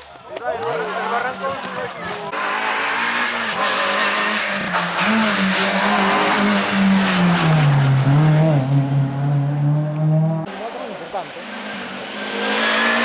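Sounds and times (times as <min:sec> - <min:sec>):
car engine at high revs: 0:02.3 - 0:13.0.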